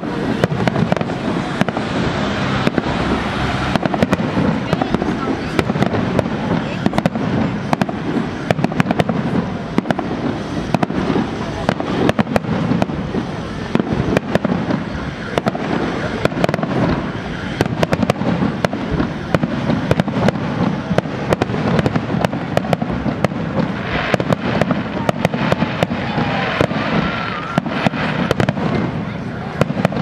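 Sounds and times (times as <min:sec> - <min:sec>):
fireworks crackling: 0:00.0 - 0:30.0
fireworks shells bursting: 0:00.0 - 0:30.0.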